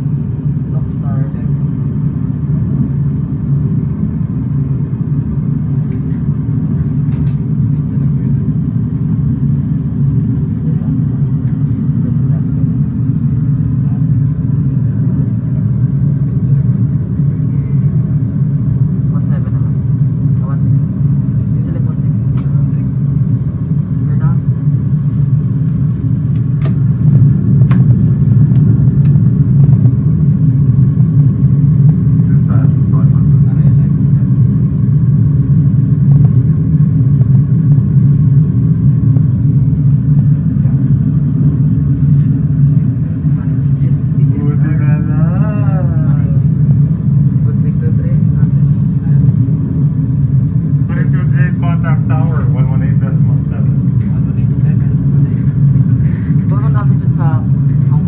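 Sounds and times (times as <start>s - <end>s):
aircraft cockpit engine rumble: 0.0s - 58.0s.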